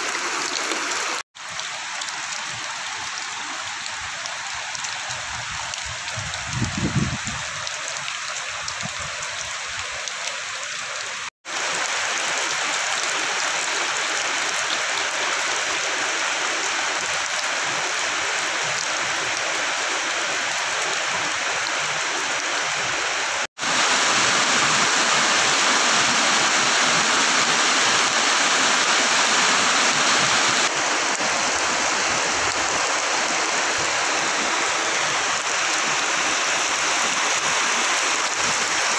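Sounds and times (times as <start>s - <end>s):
heavy rain: 0.0s - 38.9s
running water: 0.0s - 38.9s.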